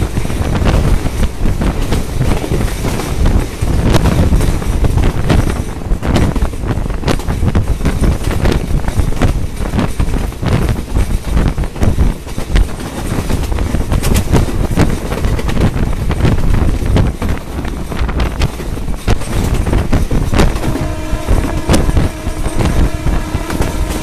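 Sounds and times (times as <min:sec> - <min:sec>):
train rumbling along track: 0:00.0 - 0:24.0
wind buffeting microphone: 0:00.0 - 0:24.0.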